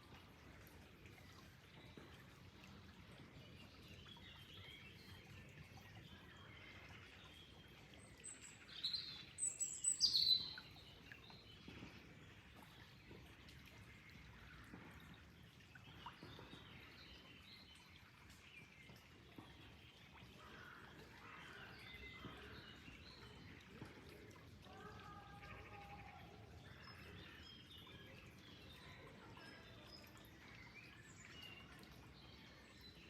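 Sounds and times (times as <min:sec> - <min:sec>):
faint flowing water hiss: 0:00.0 - 0:33.0.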